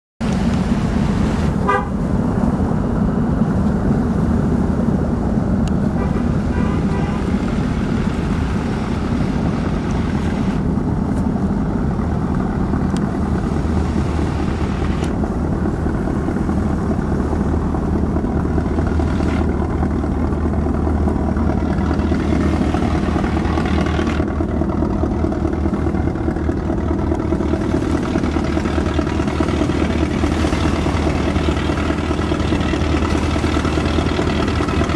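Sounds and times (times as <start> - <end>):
boat diesel engine drone: 0.2 - 34.9.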